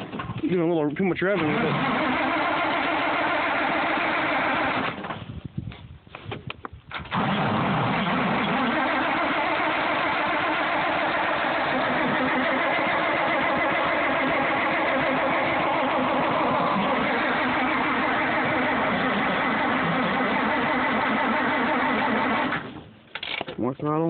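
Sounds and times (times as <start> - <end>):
tractor engine starting and running: 0.0 - 5.4, 6.8 - 24.0.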